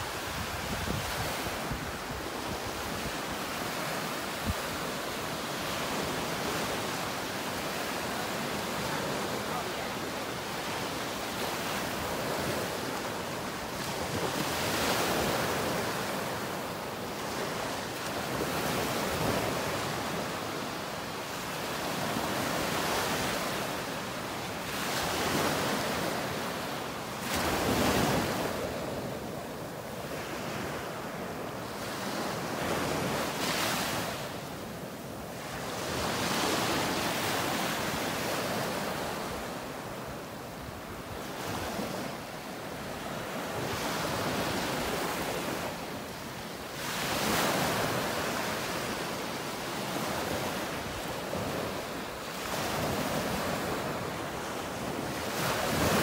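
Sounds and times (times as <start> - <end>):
surf waves breaking on sand: 0.0 - 56.0.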